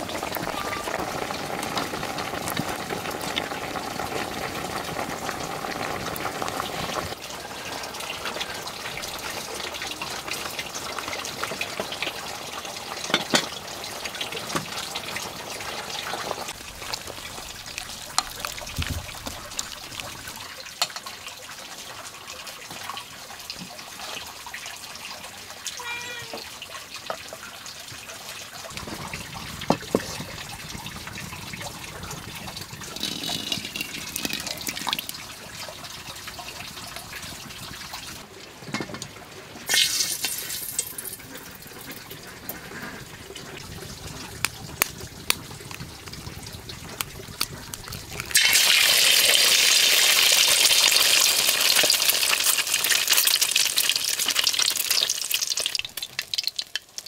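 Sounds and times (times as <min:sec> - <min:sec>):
wood fire crackling and popping: 0:00.0 - 0:20.9, 0:28.6 - 0:38.3, 0:39.0 - 0:57.0
steady cooking hiss: 0:00.0 - 0:57.0.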